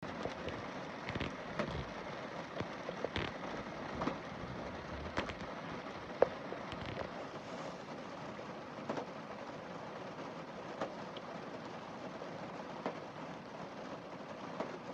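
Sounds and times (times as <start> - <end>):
rain hiss: 0.0 - 14.9
raindrops tapping on glass: 0.0 - 14.9.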